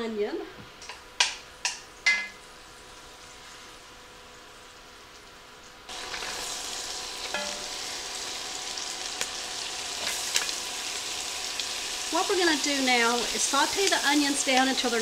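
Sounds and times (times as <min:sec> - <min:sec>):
onion sizzling in hot oil: 0:00.8 - 0:15.0.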